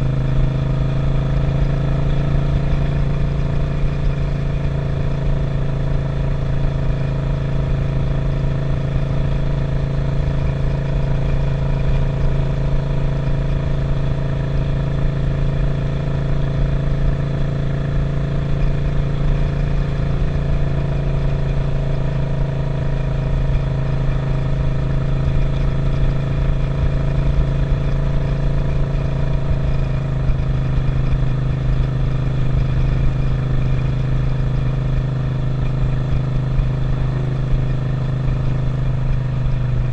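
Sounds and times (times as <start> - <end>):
low rumble of wind: 0.0 - 39.9
motorcycle engine running: 0.0 - 39.9.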